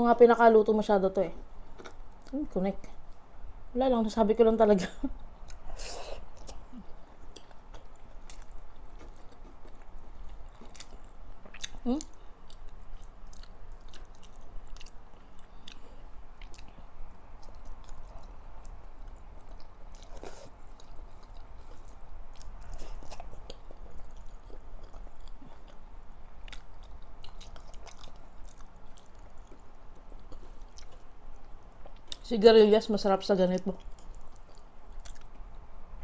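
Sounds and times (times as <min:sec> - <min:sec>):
close-up chewing: 0:05.2 - 0:32.3, 0:33.6 - 0:35.8.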